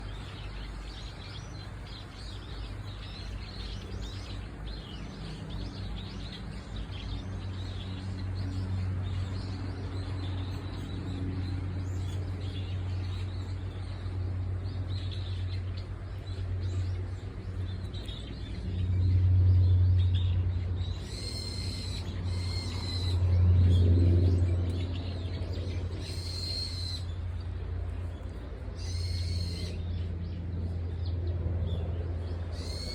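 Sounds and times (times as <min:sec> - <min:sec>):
birds chirping and calling: 0:00.0 - 0:32.9.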